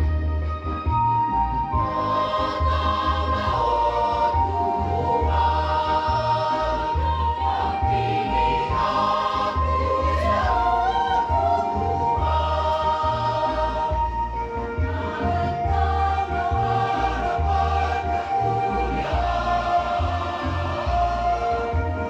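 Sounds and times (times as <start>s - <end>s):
choir singing a hymn: 1.8s - 22.0s.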